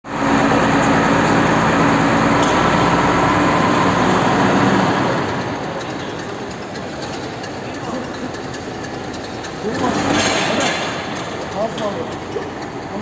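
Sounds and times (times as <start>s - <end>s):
heavy machinery running: 0.0s - 13.0s.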